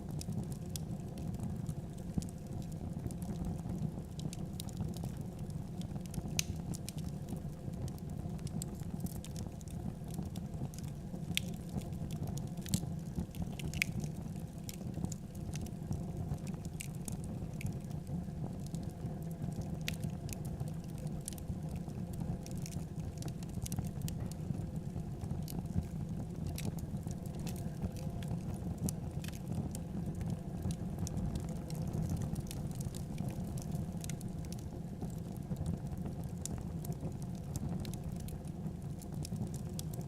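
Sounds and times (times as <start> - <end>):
fire popping and snapping: 0.1 - 40.0
wood fire crackling: 0.1 - 40.0.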